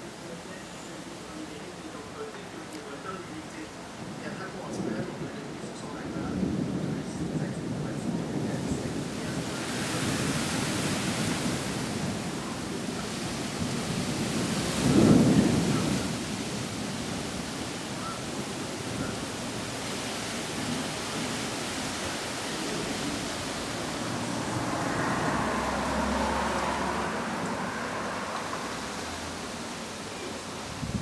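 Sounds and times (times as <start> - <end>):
heavy rain falling: 0.0 - 31.0
low rumble of thunder: 4.0 - 31.0
thunderclap: 5.9 - 31.0.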